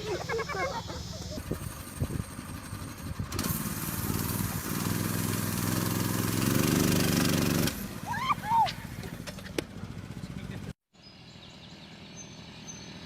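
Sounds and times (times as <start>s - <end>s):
small engine revving: 0.0s - 10.8s.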